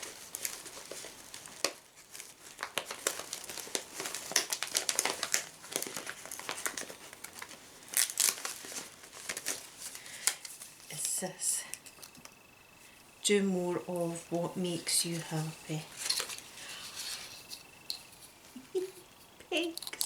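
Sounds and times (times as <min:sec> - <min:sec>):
plastic sleeve crinkling: 0:00.0 - 0:11.2, 0:14.7 - 0:20.0.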